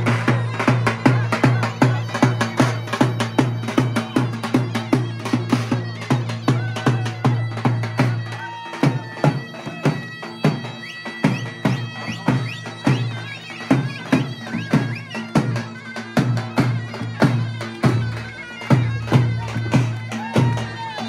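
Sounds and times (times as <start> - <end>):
drum beat: 0.0 - 21.0
reedy wind instrument melody: 0.0 - 21.0.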